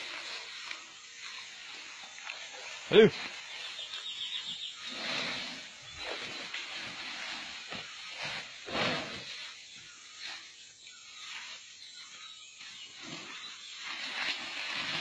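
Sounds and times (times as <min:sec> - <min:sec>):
elephant sliding through grass: 0:00.0 - 0:15.0.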